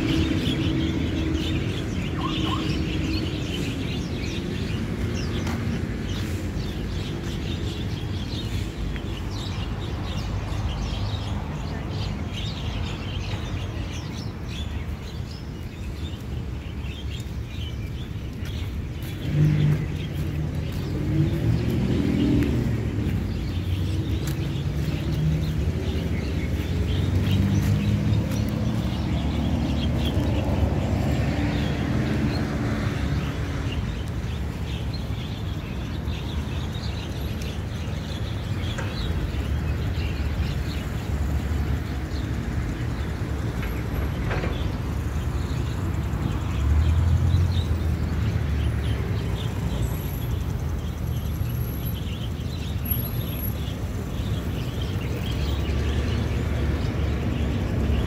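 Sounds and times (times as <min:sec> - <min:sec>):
small birds chirping: 0:00.0 - 0:58.0
traffic rumble: 0:00.0 - 0:58.0.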